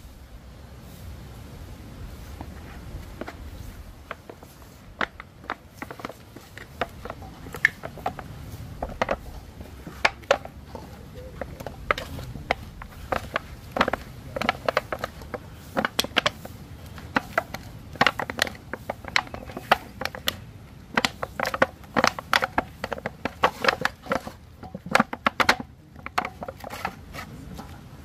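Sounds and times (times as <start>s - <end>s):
hands kneading dough: 2.2s - 28.0s.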